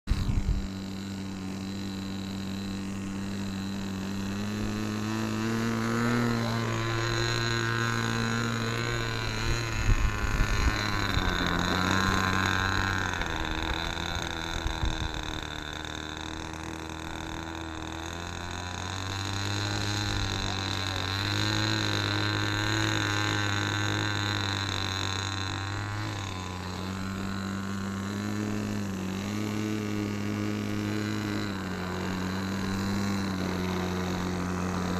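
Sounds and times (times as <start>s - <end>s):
propeller motor droning: 0.0s - 34.9s.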